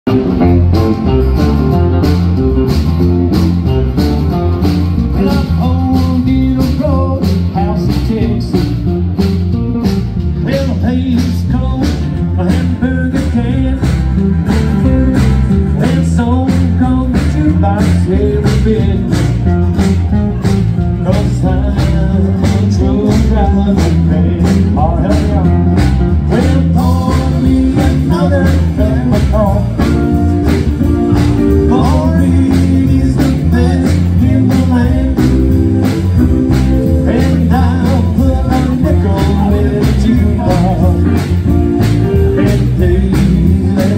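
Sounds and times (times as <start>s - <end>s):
country band playing: 0.0s - 43.9s.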